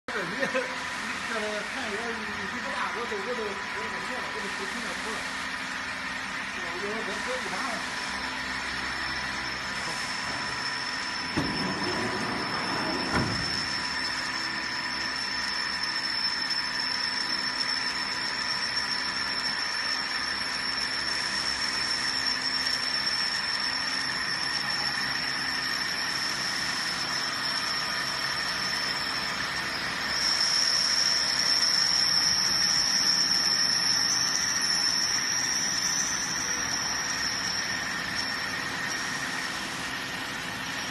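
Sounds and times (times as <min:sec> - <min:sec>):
machine drone with high whine: 0:00.1 - 0:40.9.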